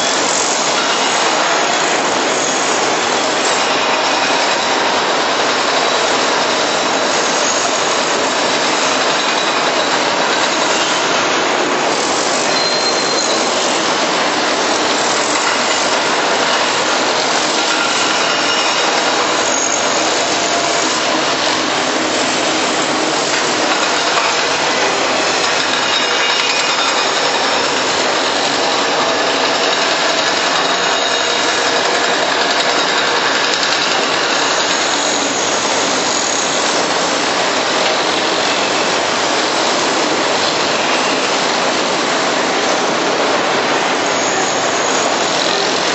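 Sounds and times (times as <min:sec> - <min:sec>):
construction machinery rushing: 0:00.0 - 0:45.9.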